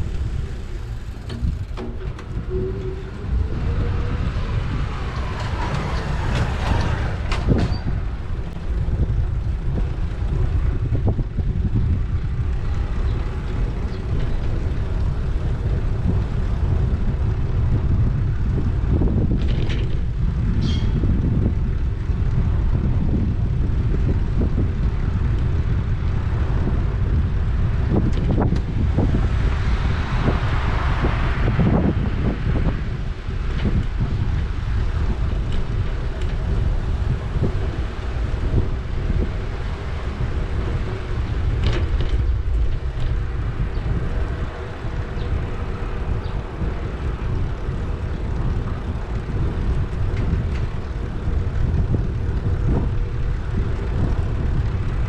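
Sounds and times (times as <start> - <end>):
street traffic passing: 0.0 - 55.0
wind rumbling on microphone: 0.0 - 55.0.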